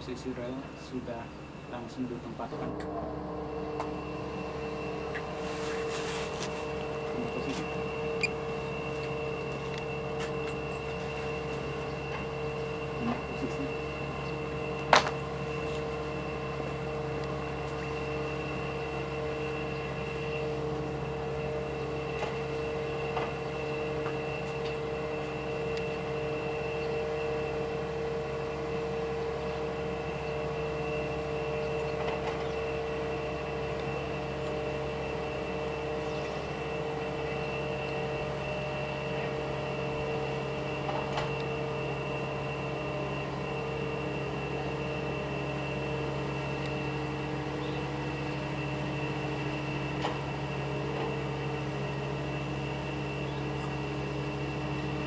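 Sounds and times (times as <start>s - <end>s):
machinery droning: 0.0s - 55.0s.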